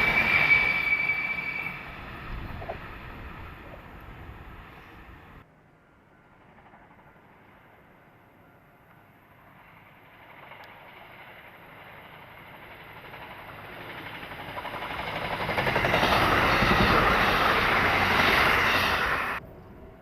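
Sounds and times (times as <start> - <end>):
train rumble and wheel noise: 0.0 - 20.0.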